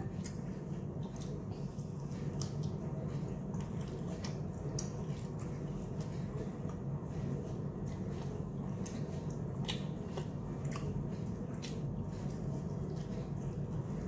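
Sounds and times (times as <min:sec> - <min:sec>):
low background hum: 0:00.0 - 0:14.0
person chewing wetly: 0:00.0 - 0:14.0.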